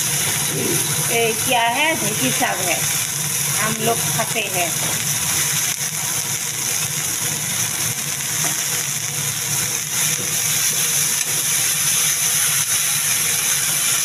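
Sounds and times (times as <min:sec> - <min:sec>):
steady low hum: 0:00.0 - 0:13.4
greens sizzling in a hot pan: 0:00.0 - 0:14.0.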